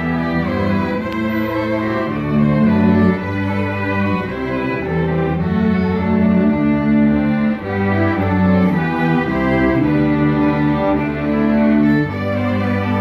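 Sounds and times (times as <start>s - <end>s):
low cello line: 0.0s - 13.0s
string orchestra playing: 0.0s - 13.0s.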